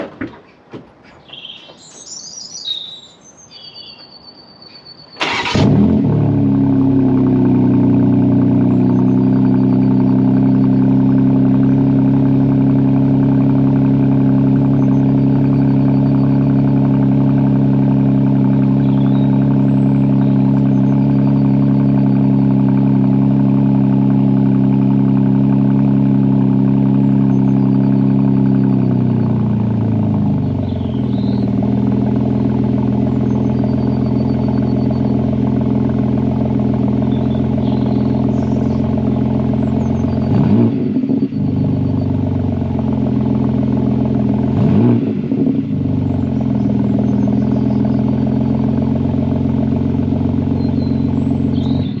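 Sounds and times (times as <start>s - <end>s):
car engine idling: 5.2s - 52.0s.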